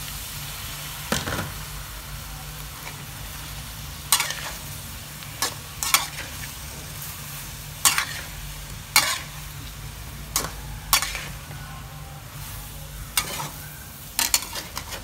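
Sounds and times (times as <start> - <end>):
faint sizzling: 0.0 - 15.0
metal spatula scraping wok: 2.6 - 15.0.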